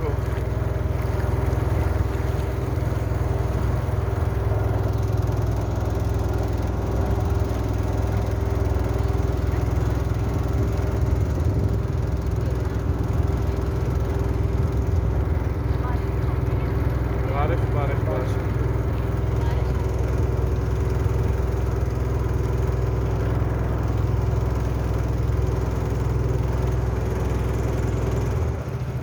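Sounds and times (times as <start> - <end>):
motorboat engine humming: 0.0 - 29.0.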